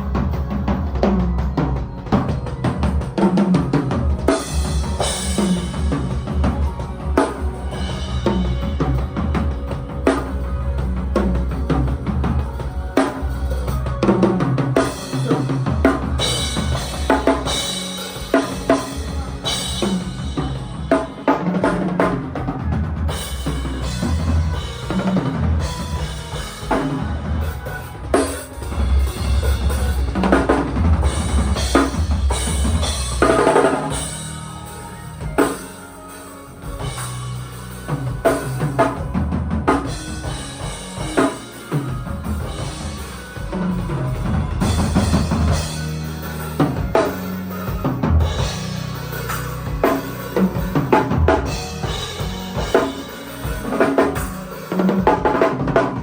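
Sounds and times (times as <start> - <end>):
drum kit hitting hard: 0.0 - 56.0
live band playing: 0.0 - 56.0
low bass notes: 0.0 - 56.0.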